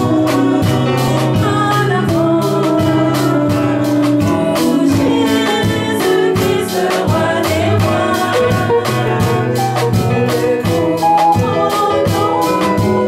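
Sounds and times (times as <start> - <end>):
band with steady beat: 0.0 - 13.0
voices singing along: 0.0 - 13.0
woman singing a hymn: 0.0 - 13.0.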